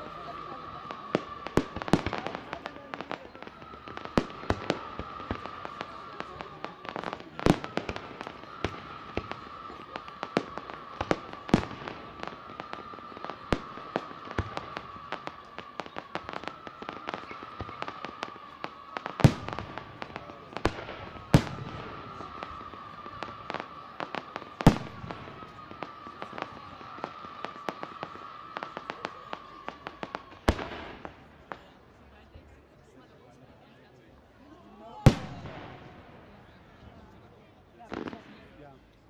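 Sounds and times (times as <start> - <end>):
loud firework bangs: 0.0 - 31.7, 35.0 - 36.4
fireworks cracking and popping: 0.0 - 32.0, 35.0 - 37.2.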